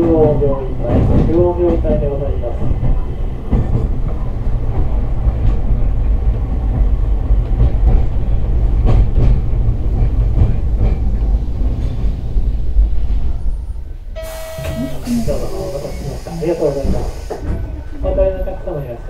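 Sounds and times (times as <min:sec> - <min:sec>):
tram rumbling: 0:00.0 - 0:19.0.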